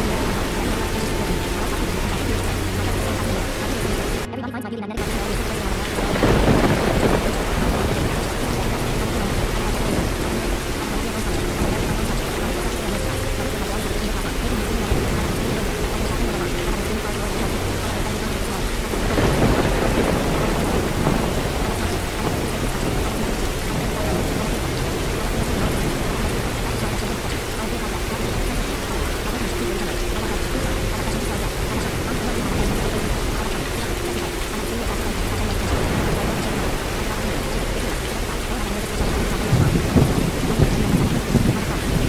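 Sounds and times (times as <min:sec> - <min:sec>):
heavy rain: 0:00.0 - 0:04.3, 0:05.0 - 0:42.0
rolling thunder: 0:05.0 - 0:42.0.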